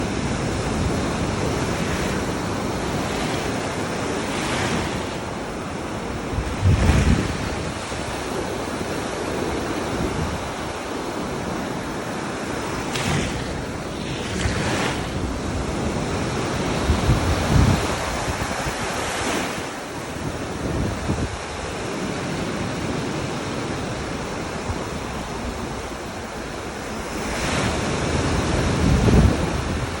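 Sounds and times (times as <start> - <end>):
ocean waves washing: 0.0 - 30.0
wind buffeting microphone: 0.0 - 30.0.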